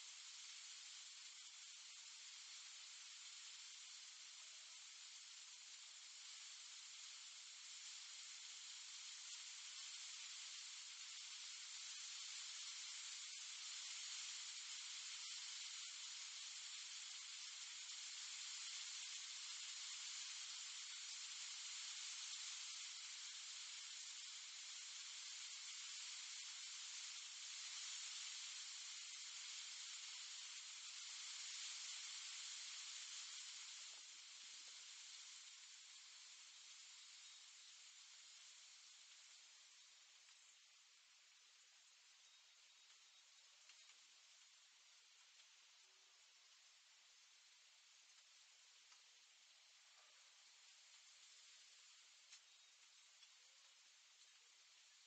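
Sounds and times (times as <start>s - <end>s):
faint microphone hiss: 0.0s - 55.0s
faint ticks: 0.0s - 55.0s.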